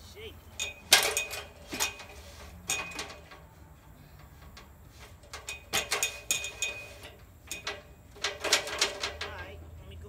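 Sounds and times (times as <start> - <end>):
metal ladder clanking: 0.5 - 9.6.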